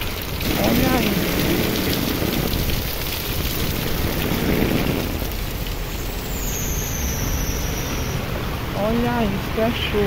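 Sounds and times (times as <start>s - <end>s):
heavy rain on street: 0.0s - 10.0s.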